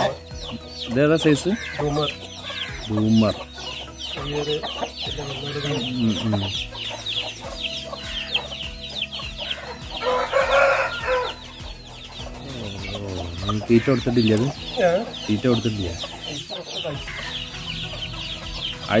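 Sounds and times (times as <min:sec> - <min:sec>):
chickens clucking: 0:00.0 - 0:19.0
chicks peeping: 0:00.0 - 0:19.0.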